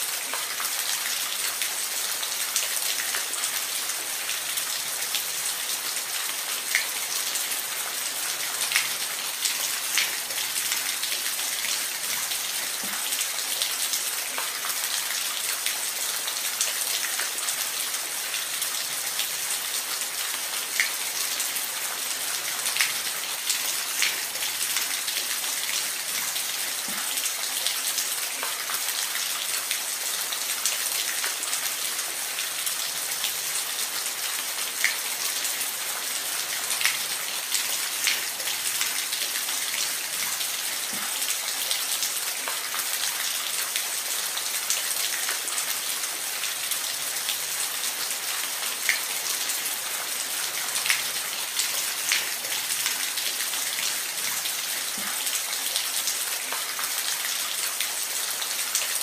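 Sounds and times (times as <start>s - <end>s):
rain falling in a forest: 0.0s - 59.0s.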